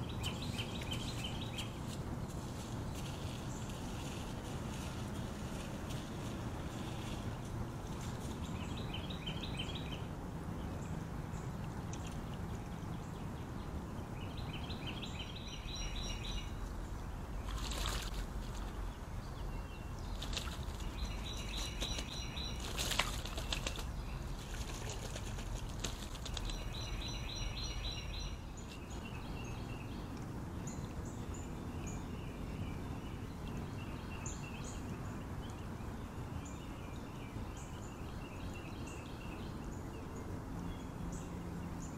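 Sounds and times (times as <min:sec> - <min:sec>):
creek water flowing: 0:00.0 - 0:34.0.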